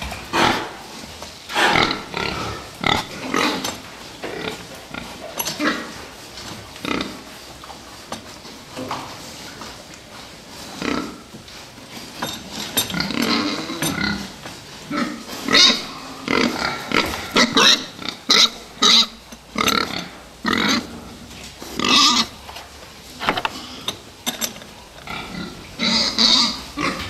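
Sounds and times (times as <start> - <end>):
pigs grunting and squealing: 0.0 - 9.5, 10.5 - 22.5, 23.3 - 24.2, 24.9 - 27.0.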